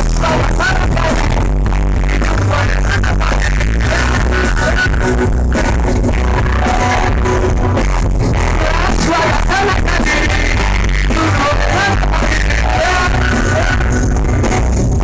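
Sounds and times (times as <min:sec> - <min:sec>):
person singing: 0:00.0 - 0:14.5
loud bass: 0:00.0 - 0:15.0
rock band playing live: 0:00.0 - 0:15.0.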